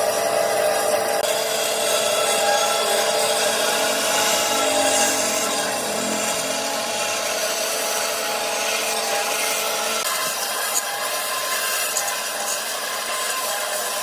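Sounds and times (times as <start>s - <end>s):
woodworking tool cutting wood: 0.0s - 14.0s.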